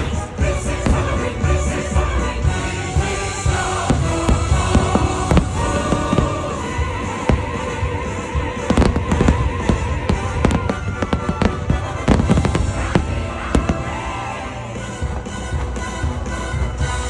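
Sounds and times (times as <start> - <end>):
fireworks bursting: 0.0 - 17.0
music soundtrack: 0.0 - 17.0.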